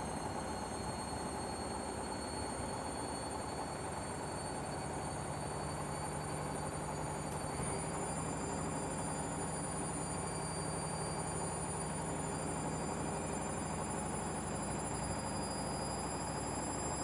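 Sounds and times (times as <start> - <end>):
high-pitched motor whine: 0.0 - 17.0
washing machines running: 0.0 - 17.0.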